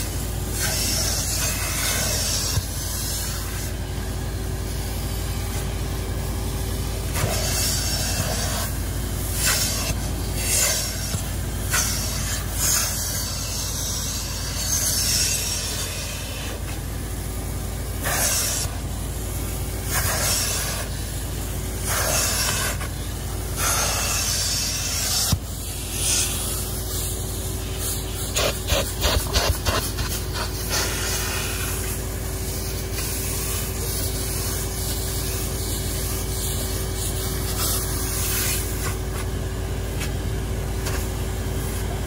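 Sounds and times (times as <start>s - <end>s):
upholstery tool spraying and sucking: 0.0s - 42.0s
vacuum motor running: 0.0s - 42.0s.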